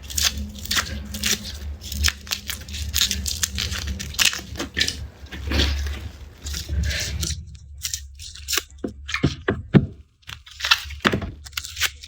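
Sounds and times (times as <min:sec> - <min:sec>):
crisp crackles and tearing snaps: 0:00.0 - 0:12.0
garlic skins rustling: 0:00.0 - 0:12.0.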